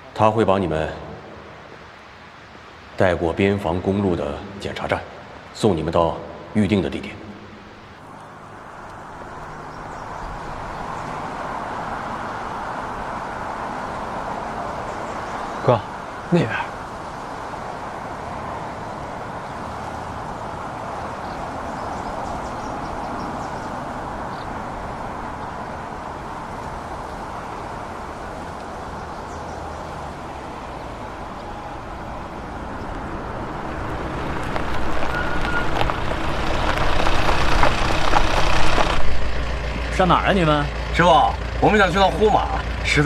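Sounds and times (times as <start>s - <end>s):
steady outdoor noise: 0.0s - 43.0s
motor vehicle approaching: 7.3s - 43.0s.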